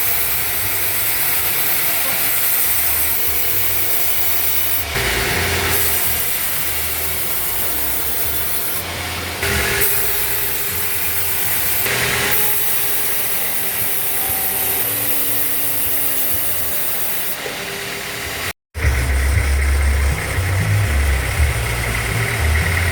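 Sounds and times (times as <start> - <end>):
band saw cutting log: 0.0 - 22.9.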